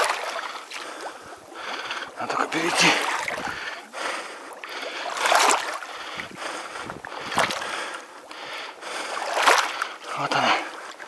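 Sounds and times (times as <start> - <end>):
wading through shallow water: 0.0 - 11.0.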